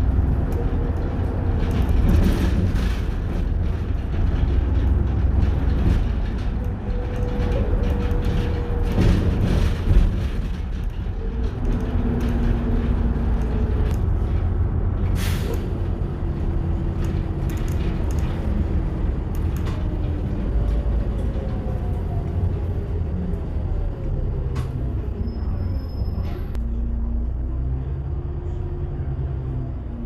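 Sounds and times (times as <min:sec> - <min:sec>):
bus engine and road rumble: 0:00.0 - 0:30.0.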